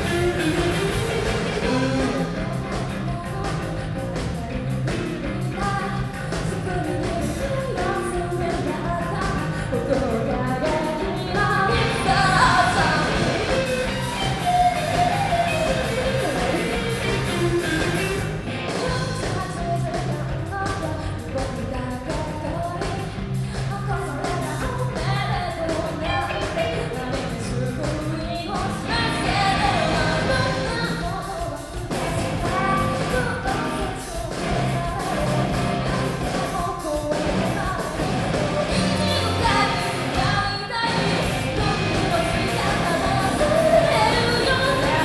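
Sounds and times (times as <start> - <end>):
lead vocal singing: 0.0 - 19.5, 25.6 - 45.0
drums beating: 0.0 - 45.0
rock band playing: 0.0 - 45.0.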